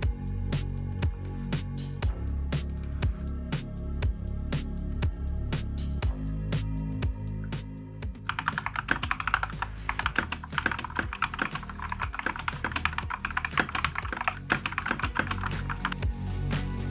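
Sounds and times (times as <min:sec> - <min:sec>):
background music: 0:00.0 - 0:16.9.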